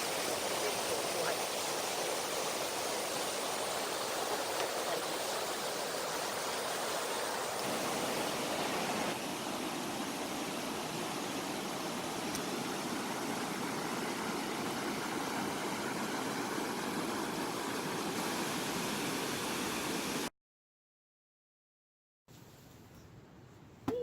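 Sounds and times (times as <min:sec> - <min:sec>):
river water flowing and splashing: 0:00.0 - 0:20.3.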